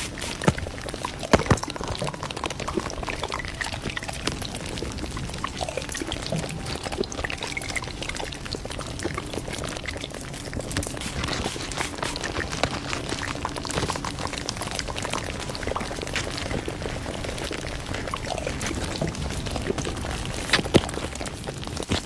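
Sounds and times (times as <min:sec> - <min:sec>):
paper and plastic crinkling: 0:00.0 - 0:22.0
sharp crackles: 0:00.0 - 0:22.0.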